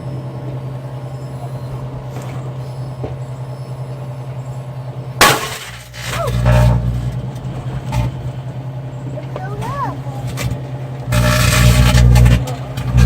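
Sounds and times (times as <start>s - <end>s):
low rushing hum: 0.0s - 13.0s
microwave oven humming: 0.0s - 13.0s.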